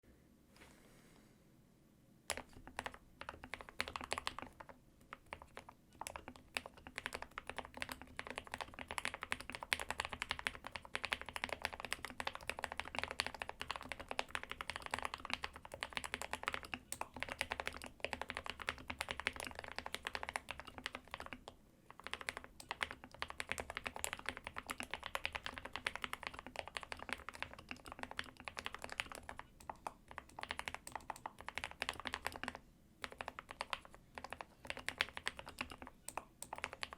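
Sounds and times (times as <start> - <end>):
fast typing on mechanical keyboard: 2.3 - 36.9.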